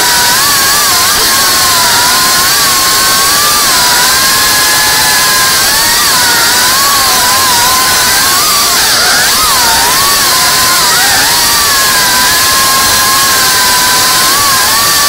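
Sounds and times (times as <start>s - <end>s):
loud hiss: 0.0s - 15.0s
quadcopter propellers whining: 0.0s - 15.0s.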